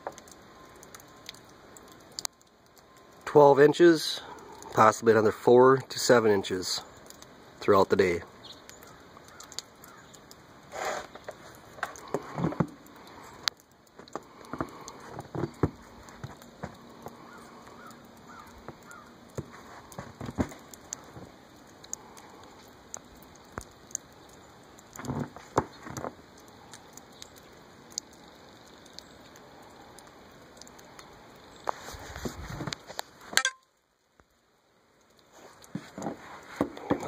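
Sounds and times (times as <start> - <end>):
wet snow pattering: 0.0 - 33.6, 35.0 - 37.0
sharp drips and taps: 0.0 - 34.4, 35.0 - 37.0.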